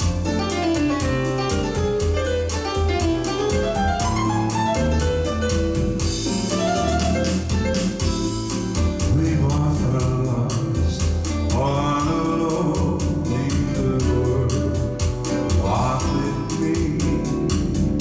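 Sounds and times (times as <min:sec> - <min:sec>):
bass line: 0:00.0 - 0:18.0
keyboard melody: 0:00.0 - 0:18.0
programmed drum beat: 0:00.0 - 0:18.0.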